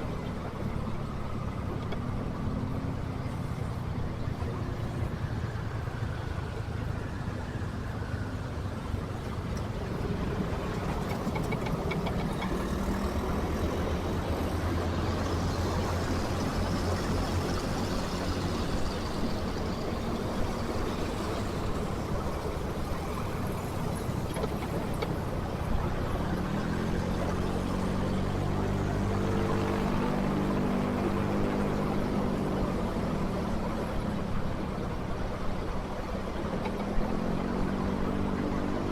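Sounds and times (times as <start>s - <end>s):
motorcycle engine humming: 0.0s - 38.9s
road and traffic noise: 0.0s - 38.9s.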